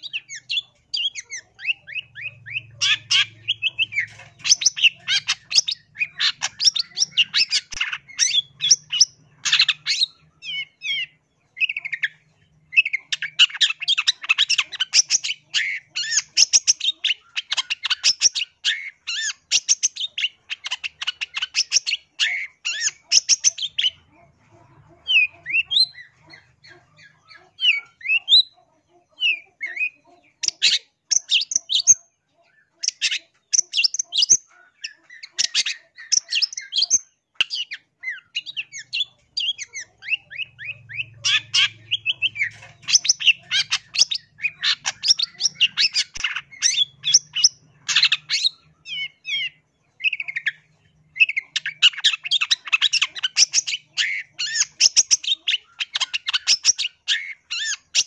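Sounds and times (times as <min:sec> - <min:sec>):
bird singing harsh chattering: 0:00.0 - 0:58.0.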